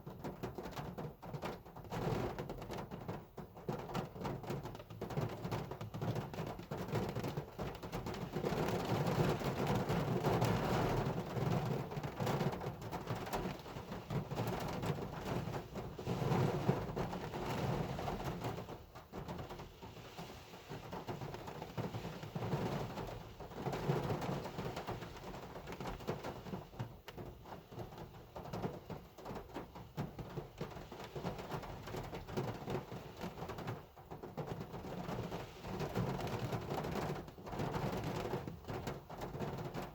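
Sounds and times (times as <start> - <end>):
heavy rain on a car: 0.0 - 39.9.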